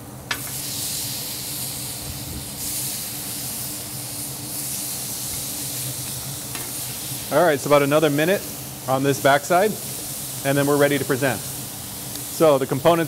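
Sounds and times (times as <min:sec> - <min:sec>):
fish sizzling on grill pan: 0:00.0 - 0:13.0
steady low hum: 0:00.0 - 0:13.0.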